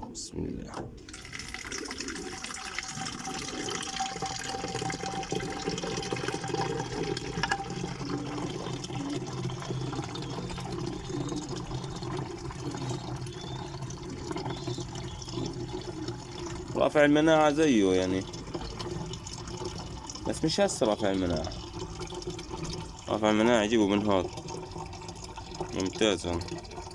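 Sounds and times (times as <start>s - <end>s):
water running into plastic container: 0.8s - 26.9s.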